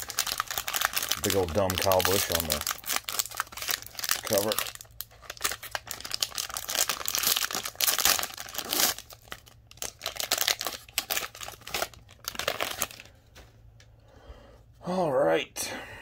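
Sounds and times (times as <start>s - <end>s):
plastic wrapper tearing and crinkling: 0.0s - 13.2s.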